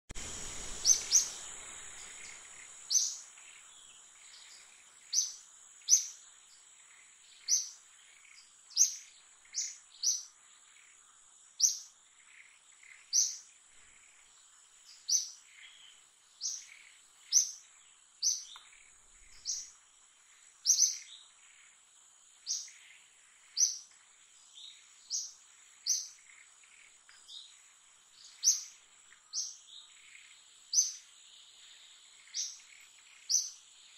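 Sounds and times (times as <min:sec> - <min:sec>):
faint high-pitched whine: 0:00.1 - 0:33.9
bird chirping: 0:00.2 - 0:33.9.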